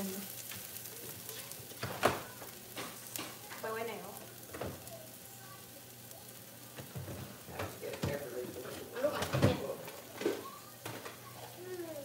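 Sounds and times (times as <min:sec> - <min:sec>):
curry paste sizzling in oil: 0:00.0 - 0:12.0.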